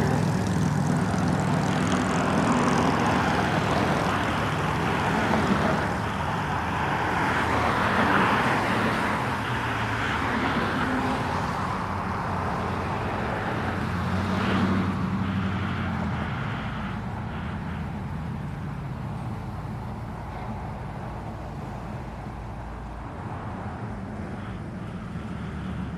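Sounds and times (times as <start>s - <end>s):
cars driving past: 0.0s - 25.9s.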